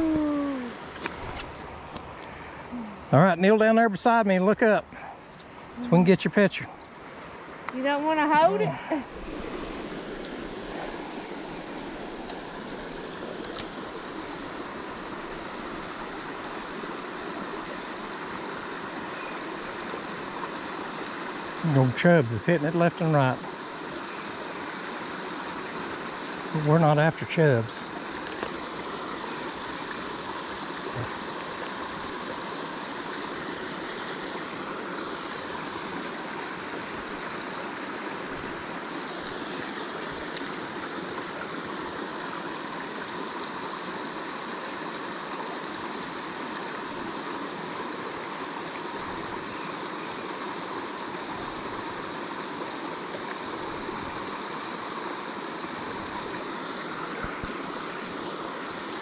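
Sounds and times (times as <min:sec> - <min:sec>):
creek running over rocks: 0:00.0 - 0:59.0.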